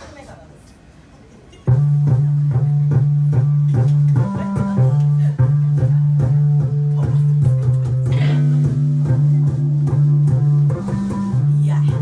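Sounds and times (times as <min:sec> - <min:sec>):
plucked guitar notes: 0:01.6 - 0:12.0
bass guitar low line: 0:01.7 - 0:12.0
steady beat: 0:01.7 - 0:12.0.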